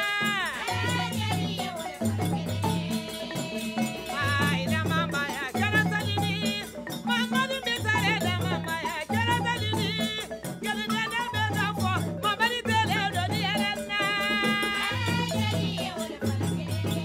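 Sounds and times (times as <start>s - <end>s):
person singing: 0.0s - 17.0s
shaker-like percussion: 0.0s - 17.0s.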